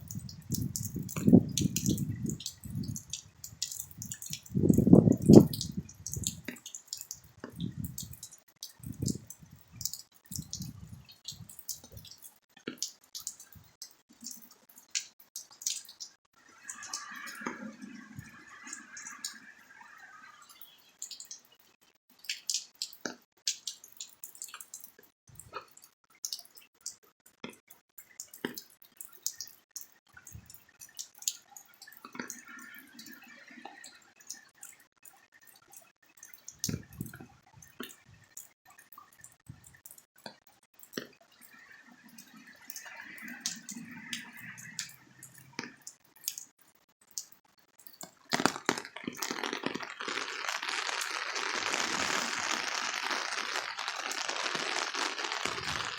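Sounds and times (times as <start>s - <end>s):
rainwater dripping: 0.0s - 55.9s.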